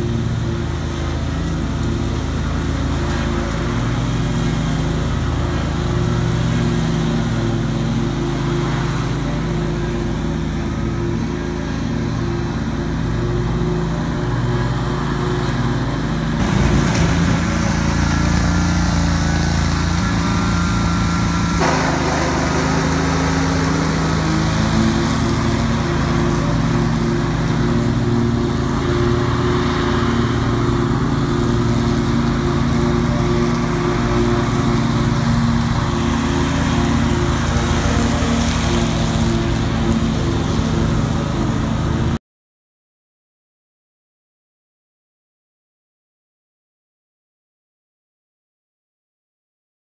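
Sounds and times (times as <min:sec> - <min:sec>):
mower blades cutting grass: 0:00.0 - 0:42.2
mower engine at full throttle: 0:00.0 - 0:42.2.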